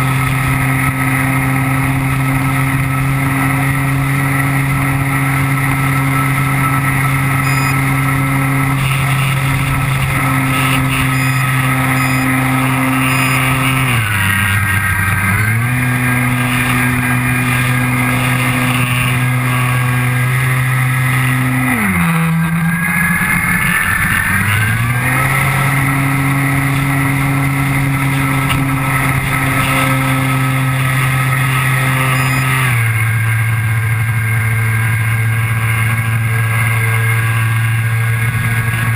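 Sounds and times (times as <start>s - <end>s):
model airplane motor and propeller: 0.0s - 38.9s.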